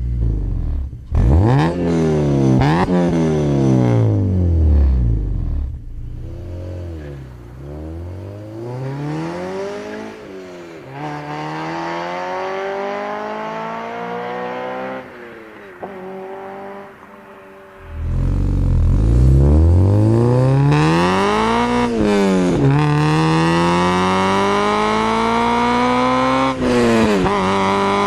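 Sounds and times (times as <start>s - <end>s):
car engine revving: 0.0s - 15.2s, 15.8s - 28.0s.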